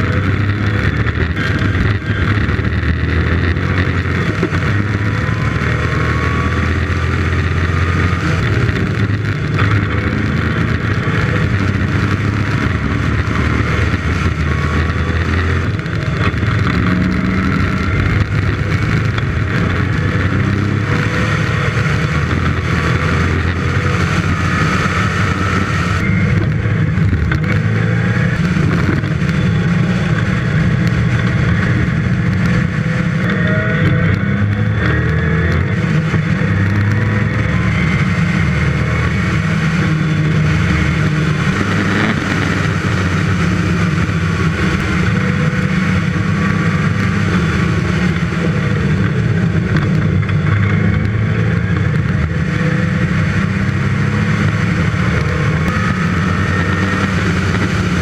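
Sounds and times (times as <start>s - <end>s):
car engine revving and shifting: 0.0s - 58.0s
wind and road noise: 0.0s - 58.0s.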